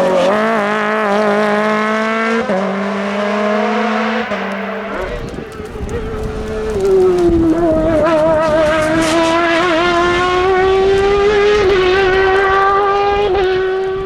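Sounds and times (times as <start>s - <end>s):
car engine at high revs: 0.0s - 14.0s.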